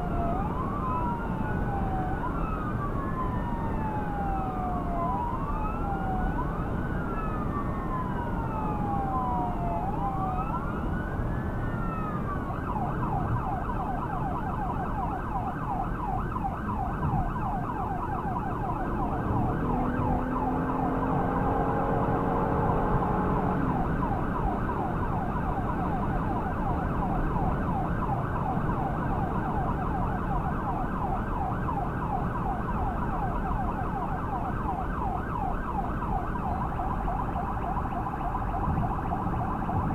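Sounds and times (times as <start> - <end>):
emergency siren wailing and yelping: 0.0 - 39.9
road noise: 0.0 - 39.9.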